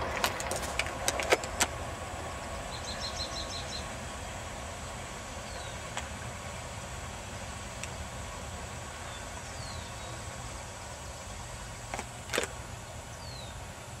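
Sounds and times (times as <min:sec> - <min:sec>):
freight train cars rolling past: 0:00.0 - 0:12.3.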